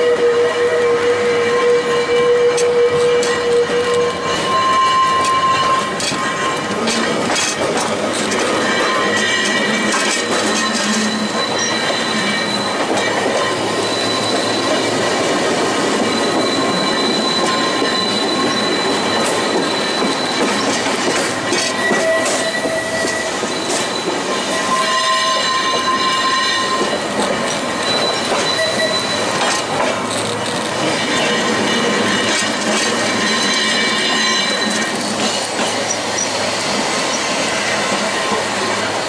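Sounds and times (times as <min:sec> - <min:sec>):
rumble of wheels on rail: 0:00.0 - 0:39.0
tram wheels squealing on rails: 0:00.0 - 0:39.0.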